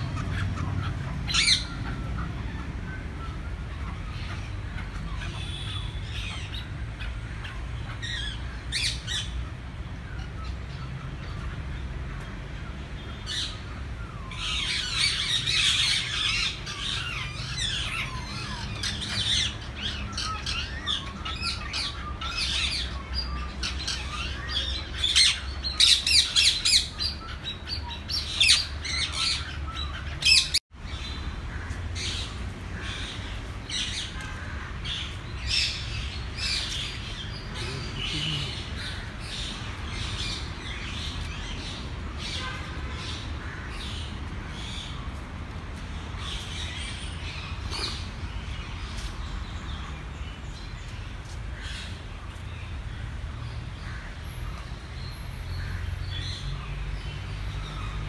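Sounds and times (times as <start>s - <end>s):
birds chirping and squawking: 0.0s - 58.0s
loud sharp bird calls: 0.0s - 58.0s.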